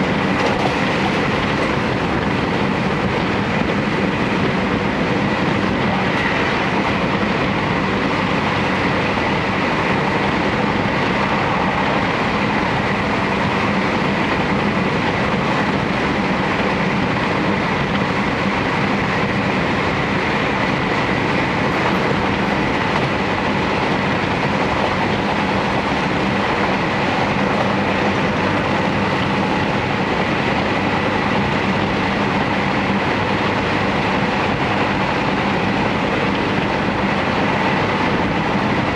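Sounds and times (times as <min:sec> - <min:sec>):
train running and rolling noise: 0:00.0 - 0:38.9.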